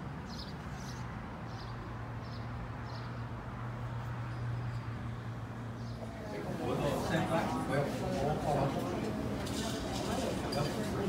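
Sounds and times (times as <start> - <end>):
low hum of cars: 0.0 - 11.0.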